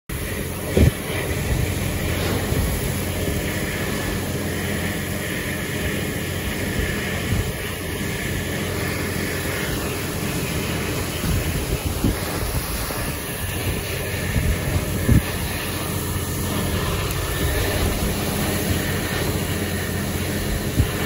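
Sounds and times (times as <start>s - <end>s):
heavy rain hissing on pavement: 0.1s - 21.0s
hurricane wind blowing: 0.1s - 21.0s
wind buffeting microphone: 0.1s - 21.0s.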